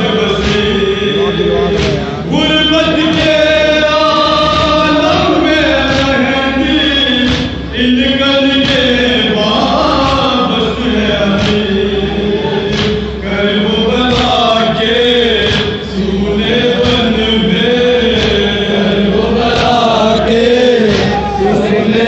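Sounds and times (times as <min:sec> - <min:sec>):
men chanting in unison: 0:00.0 - 0:22.0
chest-beating thumps: 0:00.1 - 0:21.4.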